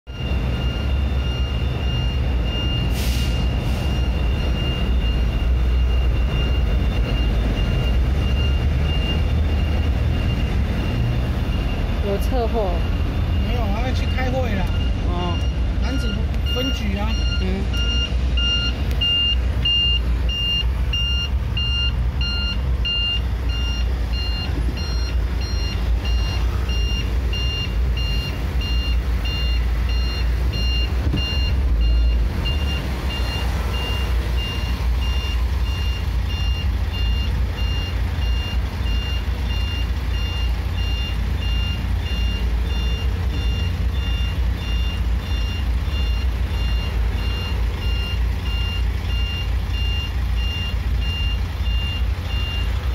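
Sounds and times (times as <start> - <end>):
electronic warning beeper: 0.1 - 52.7
low engine rumble: 0.1 - 52.9.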